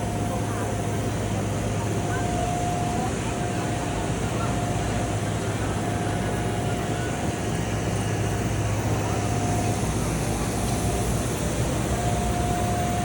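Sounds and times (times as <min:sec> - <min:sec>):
printer machine noise: 0:00.0 - 0:13.0
thin steady tone: 0:00.0 - 0:13.0.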